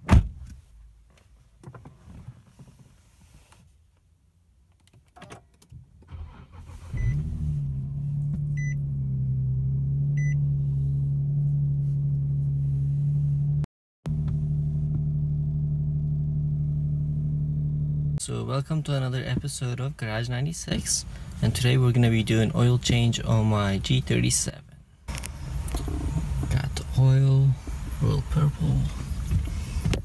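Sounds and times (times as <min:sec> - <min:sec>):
car engine starting and idling: 0:04.7 - 0:30.0.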